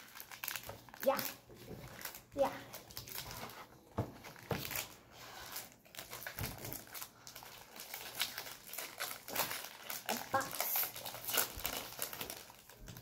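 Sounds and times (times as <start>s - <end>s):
foil wrapper crinkling: 0.0s - 3.7s, 4.3s - 13.0s.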